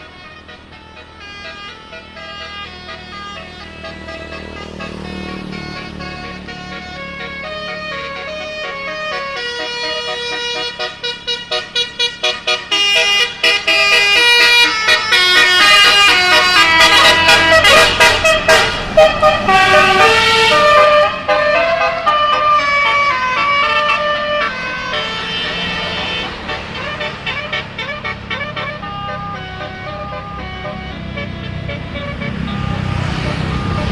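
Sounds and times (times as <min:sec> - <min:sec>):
musical air horn melody: 0:00.0 - 0:33.9.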